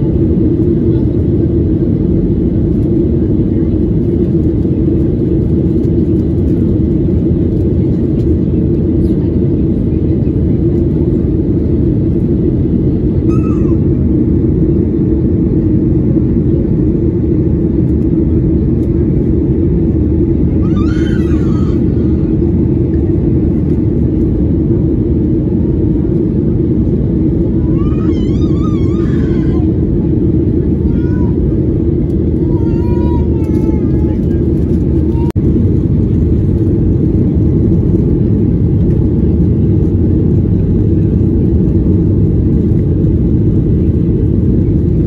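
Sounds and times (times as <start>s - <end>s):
airliner cabin rumble: 0.0s - 45.0s
faint voices: 0.2s - 38.9s.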